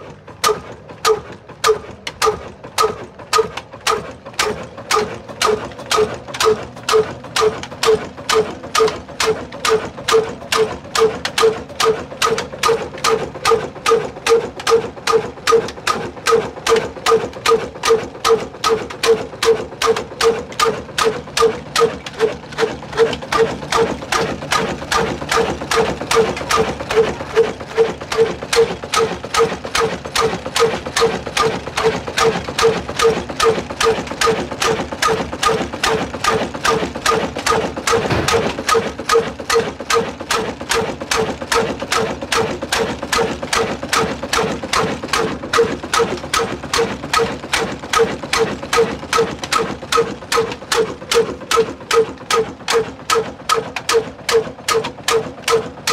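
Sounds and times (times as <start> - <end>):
diesel engine running slowly: 0.0 - 55.9.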